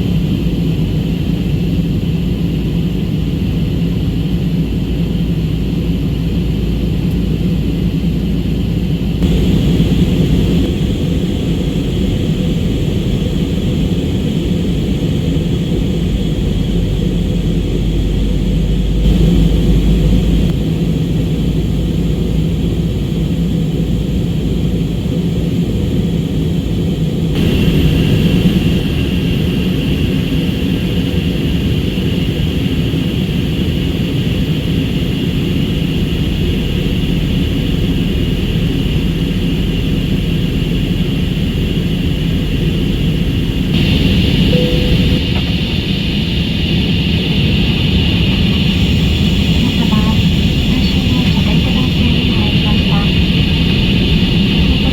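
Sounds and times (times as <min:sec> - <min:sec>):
airliner cabin noise: 0:00.0 - 0:54.9.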